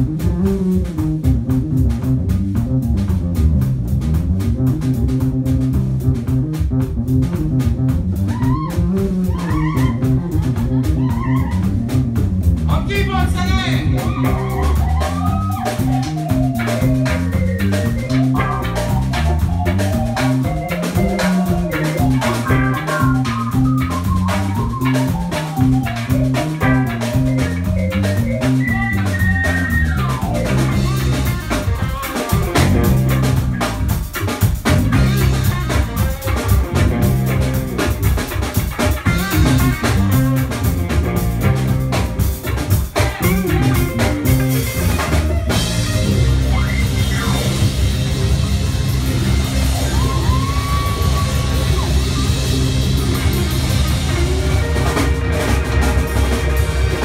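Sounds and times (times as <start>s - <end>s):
bass line: 0.0s - 57.0s
drum kit: 0.0s - 57.0s
electric guitar: 0.0s - 57.0s
keyboard: 0.0s - 57.0s.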